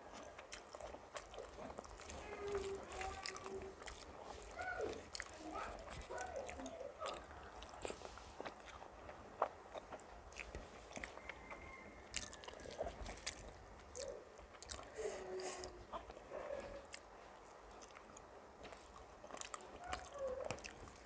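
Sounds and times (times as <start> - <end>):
chewing and biting food: 0.0 - 21.0.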